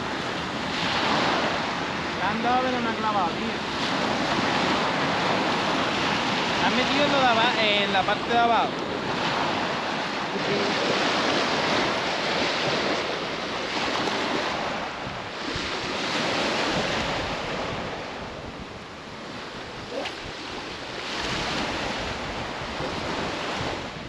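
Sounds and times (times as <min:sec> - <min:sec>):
waves breaking on beach: 0:00.0 - 0:24.0
wind buffeting microphone: 0:00.0 - 0:24.0.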